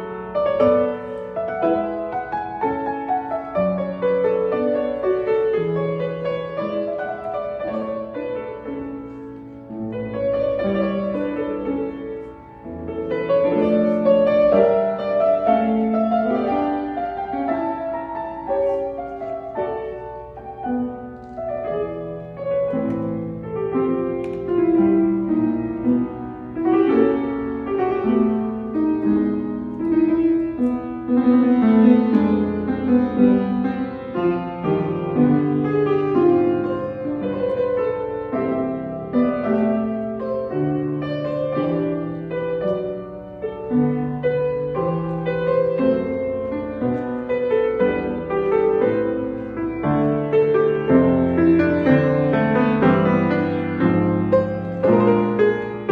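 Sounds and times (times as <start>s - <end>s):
piano music: 0.0s - 55.9s.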